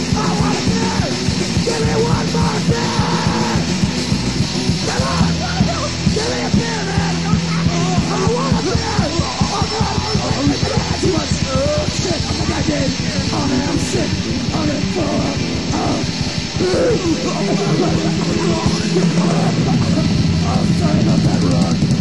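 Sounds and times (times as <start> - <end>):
distorted guitar and bass: 0.0 - 22.0
rapid drumming: 0.0 - 22.0
yelled vocals: 0.0 - 22.0.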